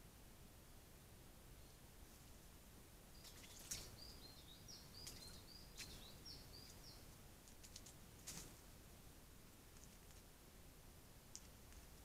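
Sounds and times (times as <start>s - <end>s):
songbird chirping: 1.4s - 12.0s.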